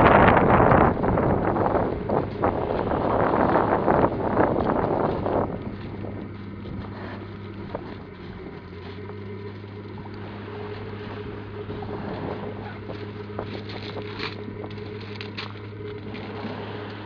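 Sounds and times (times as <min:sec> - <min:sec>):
low mechanical hum: 0:00.0 - 0:17.0
surf: 0:00.0 - 0:17.0
wind: 0:00.0 - 0:17.0.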